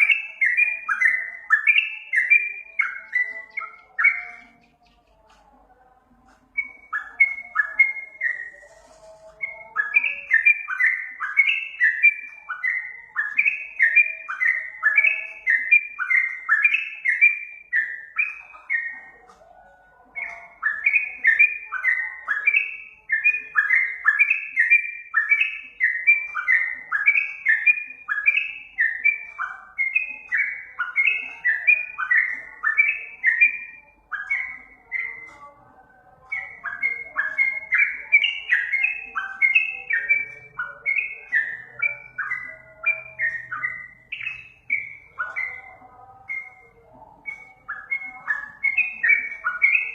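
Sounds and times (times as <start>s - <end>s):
faint lower chattering: 0.0s - 49.9s.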